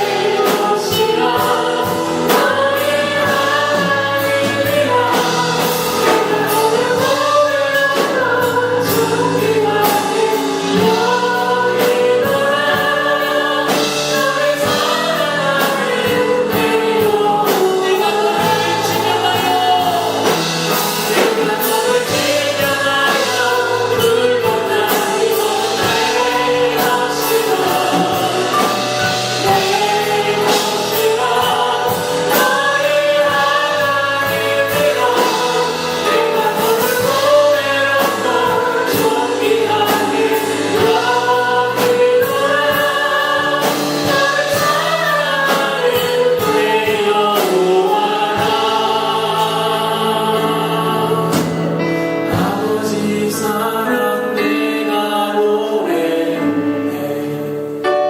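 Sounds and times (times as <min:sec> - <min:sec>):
instrumental accompaniment with beat: 0:00.0 - 0:54.6
choir singing a hymn: 0:00.0 - 0:58.0.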